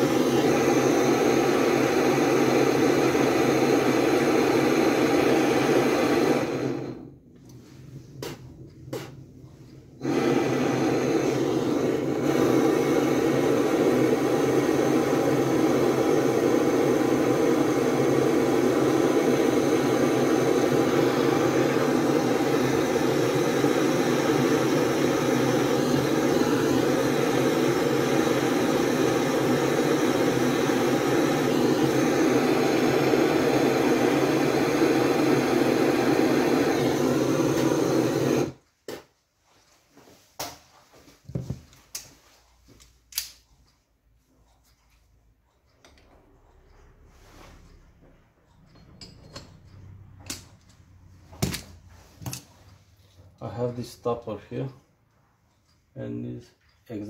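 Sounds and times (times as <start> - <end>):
gas torch flame burning: 0.0 - 39.1, 45.6 - 54.7.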